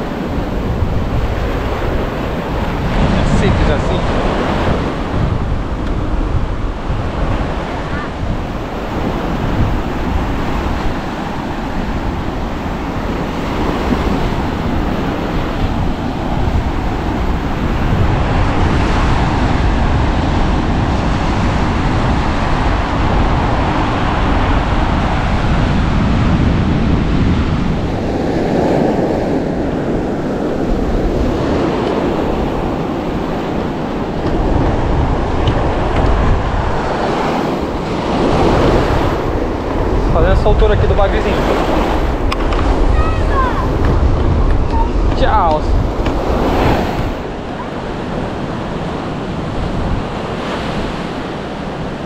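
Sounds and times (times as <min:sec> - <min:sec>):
surf breaking: 0:00.0 - 0:52.0
wind buffeting microphone: 0:00.0 - 0:52.0.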